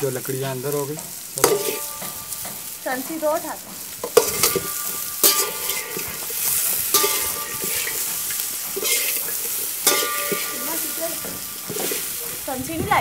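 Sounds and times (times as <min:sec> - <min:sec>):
vegetables sizzling in oil: 0:00.0 - 0:13.0
metal spoon scraping a pan: 0:00.4 - 0:12.5.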